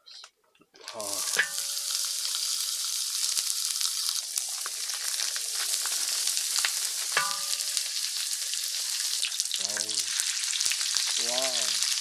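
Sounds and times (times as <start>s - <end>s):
fat crackling and popping: 0.0s - 12.0s
meat sizzling in a hot pan: 0.8s - 12.0s.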